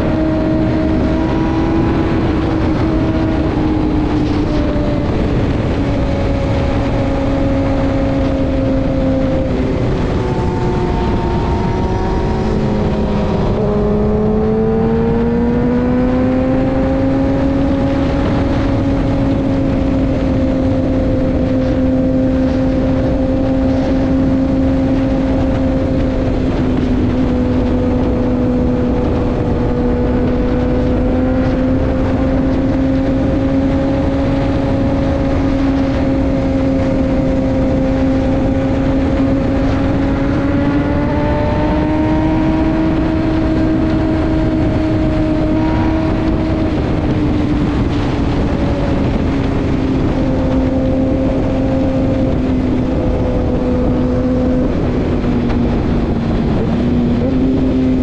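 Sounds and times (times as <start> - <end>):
motorcycle engine cruising: 0.0 - 58.0
rushing wind noise: 0.0 - 58.0.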